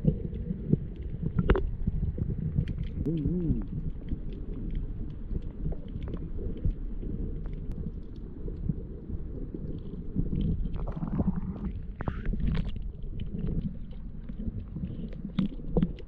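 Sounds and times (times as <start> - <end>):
water splashes: 0.0 - 16.0
wind on camera: 0.0 - 16.0.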